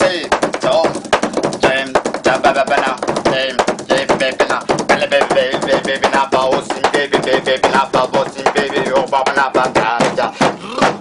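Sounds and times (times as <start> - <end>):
hand-slapped beats on hard surface: 0.0 - 11.0
man singing: 0.0 - 11.0.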